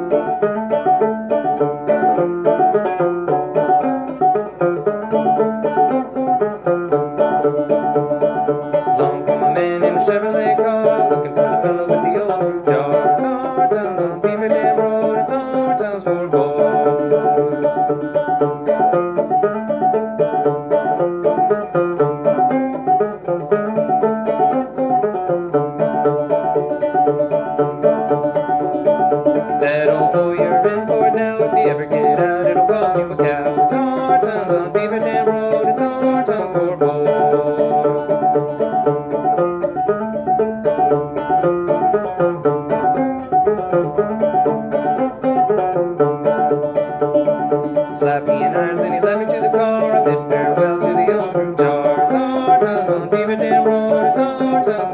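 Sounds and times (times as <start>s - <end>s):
banjo playing old-time tune: 0.0s - 54.9s.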